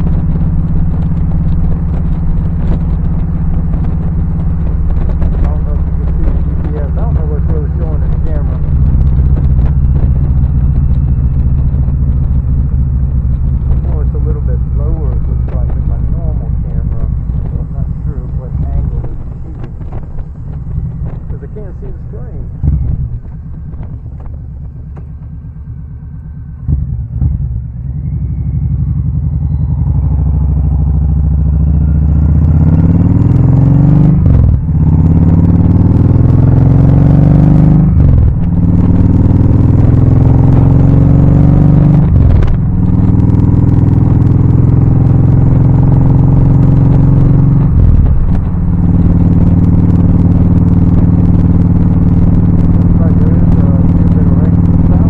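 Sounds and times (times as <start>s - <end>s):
motorcycle engine accelerating: 0.0s - 55.0s
wind noise on microphone: 0.0s - 55.0s.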